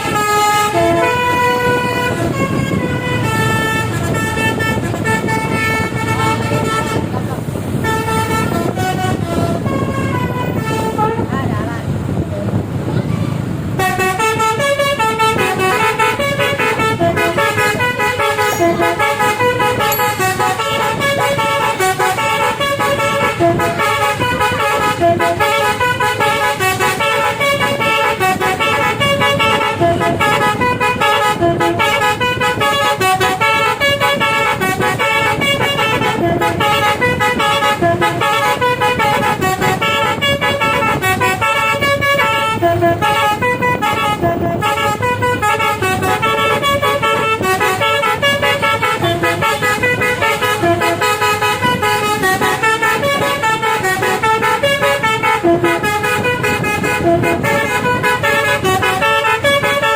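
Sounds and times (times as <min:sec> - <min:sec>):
musical air horn melody: 0:00.0 - 0:07.1, 0:07.7 - 0:11.3, 0:13.8 - 0:59.9
low engine hum: 0:00.1 - 0:59.9.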